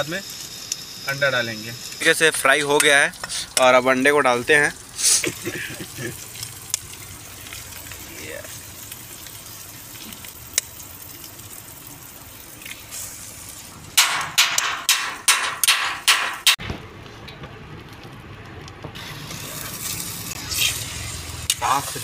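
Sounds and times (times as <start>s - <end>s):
eggs sizzling in hot oil: 0.0s - 16.2s, 18.8s - 22.0s.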